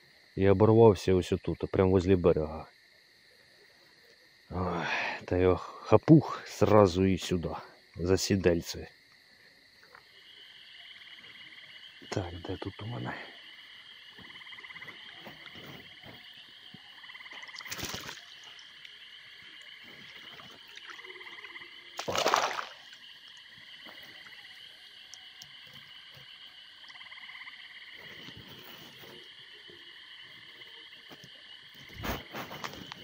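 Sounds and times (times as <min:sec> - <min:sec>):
frogs trilling: 0:00.0 - 0:33.0
high-pitched frog chorus: 0:00.0 - 0:33.0.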